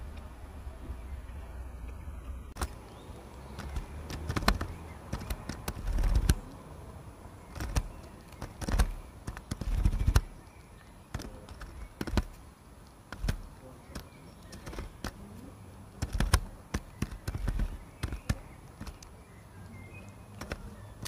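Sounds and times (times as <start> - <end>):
bird pecking at wire feeder: 2.6 - 6.8, 7.4 - 21.0.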